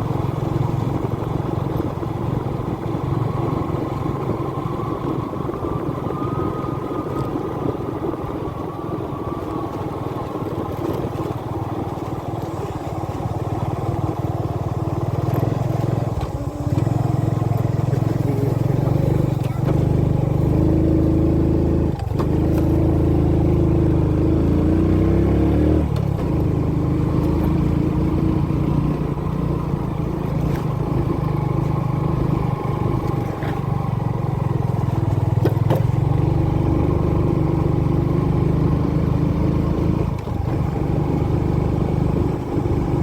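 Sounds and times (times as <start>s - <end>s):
motorbike engine running: 0.0s - 43.0s.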